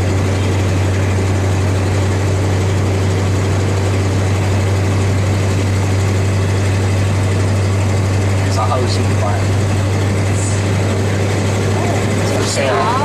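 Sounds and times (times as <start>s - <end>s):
road and cab noise: 0.0s - 13.0s
truck engine droning: 0.0s - 13.0s.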